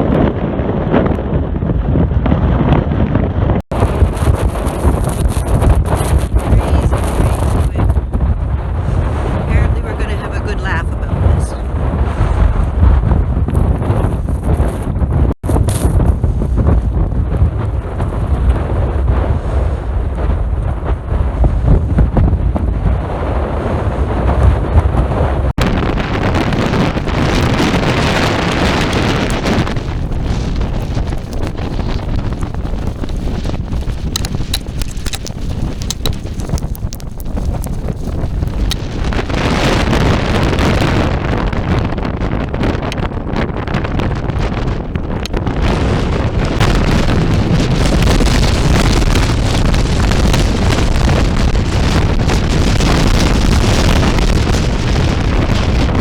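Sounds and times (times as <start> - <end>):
strong wind buffeting microphone: 0.0 - 56.0.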